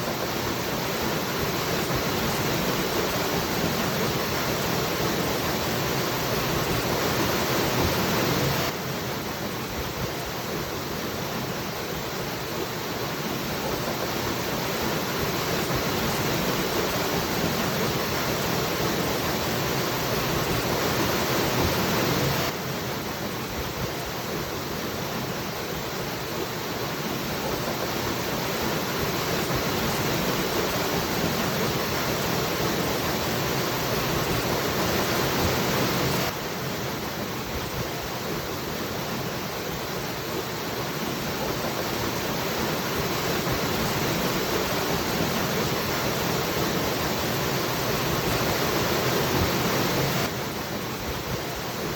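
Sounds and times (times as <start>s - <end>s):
waterfall rushing: 10.3s - 51.9s.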